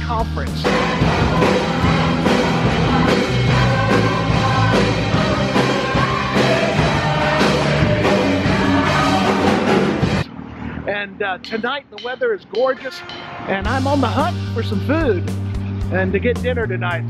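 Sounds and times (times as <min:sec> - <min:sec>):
drum kit: 0:00.0 - 0:10.3, 0:11.4 - 0:17.0
rock band playing: 0:00.4 - 0:10.3, 0:11.8 - 0:15.9.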